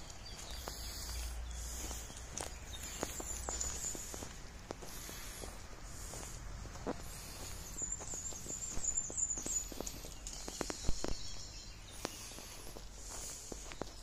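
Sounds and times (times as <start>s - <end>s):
footsteps crunching on needles: 0.0s - 14.0s.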